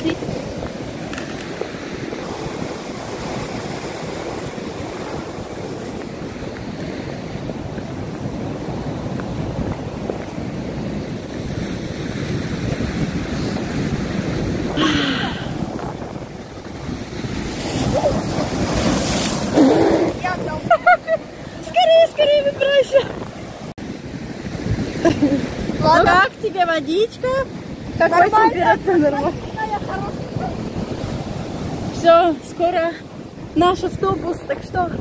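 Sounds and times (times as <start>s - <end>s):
waves breaking on rocks: 0.0s - 35.0s
wind buffeting microphone: 0.0s - 35.0s.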